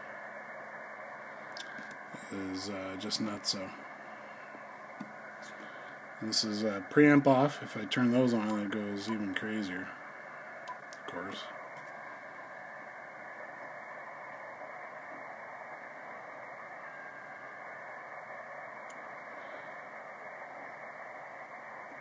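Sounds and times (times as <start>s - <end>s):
radio receiver hiss: 0.0s - 22.0s.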